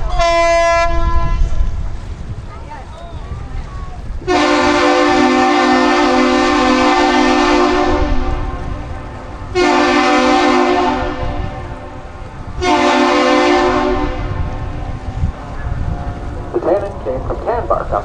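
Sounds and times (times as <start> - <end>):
deep horn blasts: 0.0 - 2.5, 4.2 - 18.0.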